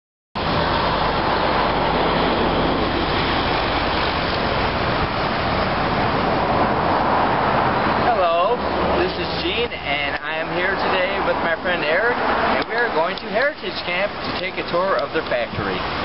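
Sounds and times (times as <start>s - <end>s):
traffic and city roar: 0.4s - 16.0s.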